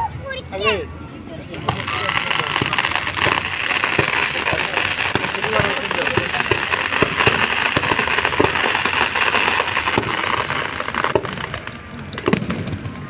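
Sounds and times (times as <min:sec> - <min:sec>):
fireworks crackling: 0:00.6 - 0:13.0
sharp fireworks pops: 0:01.5 - 0:13.0.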